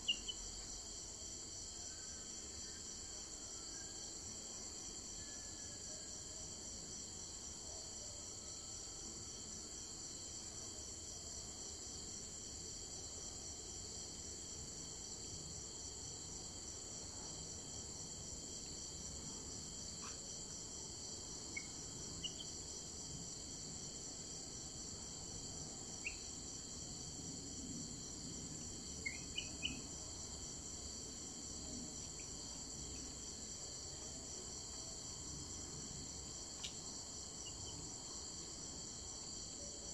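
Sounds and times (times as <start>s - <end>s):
insects trilling: 0.0s - 7.4s, 11.2s - 39.8s.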